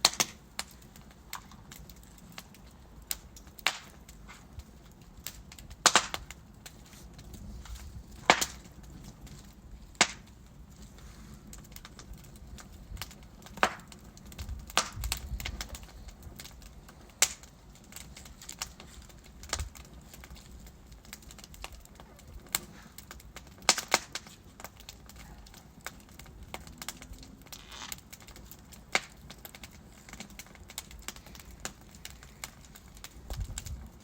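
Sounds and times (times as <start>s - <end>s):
low rumble of flames: 0.0s - 34.0s
wood fire crackling: 0.0s - 34.0s.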